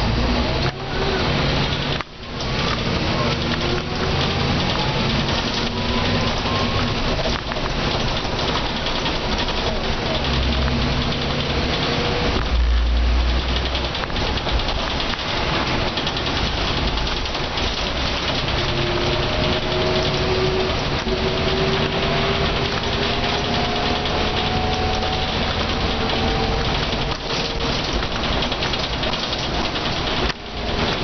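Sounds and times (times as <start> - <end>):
bus engine whine rising: 0.0 - 31.0.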